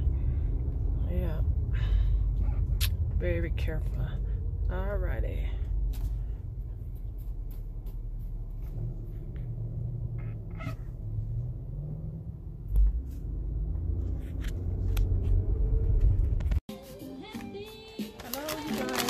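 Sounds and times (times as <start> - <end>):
car engine and tyres rumbling: 0.0 - 16.7.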